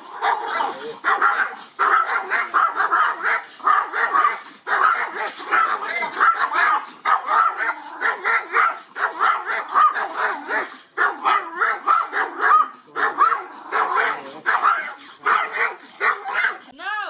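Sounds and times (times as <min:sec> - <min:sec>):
small dogs yapping: 0:00.0 - 0:16.8.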